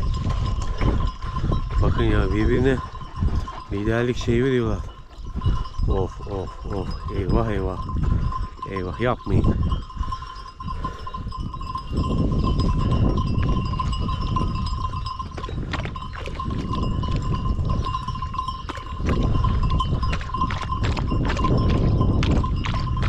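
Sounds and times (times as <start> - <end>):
sheep bells ringing: 0.0 - 23.0.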